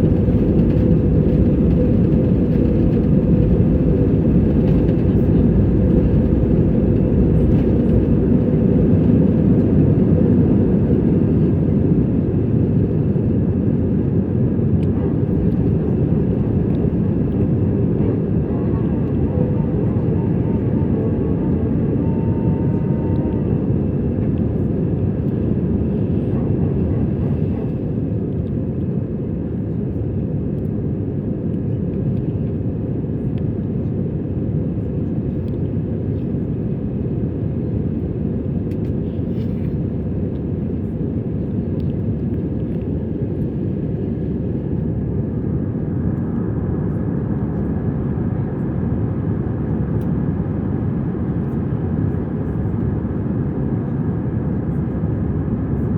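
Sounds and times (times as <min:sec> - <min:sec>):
aircraft engine and airflow rumble: 0:00.0 - 0:55.9.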